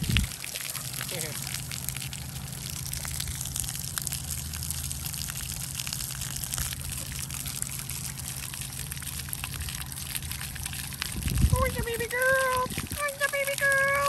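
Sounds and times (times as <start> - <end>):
low hum: 0.0 - 13.0
fountain jets splashing on concrete: 0.0 - 14.0.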